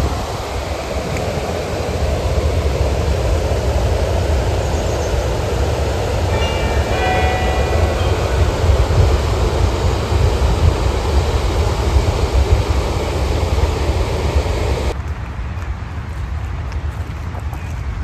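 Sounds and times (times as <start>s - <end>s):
train passing: 0.0s - 16.0s
wind buffeting microphone: 0.0s - 18.0s.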